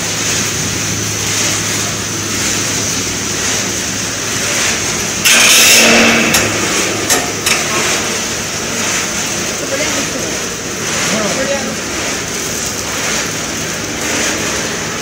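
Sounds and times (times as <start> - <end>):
machinery hum and hiss: 0.0 - 15.0.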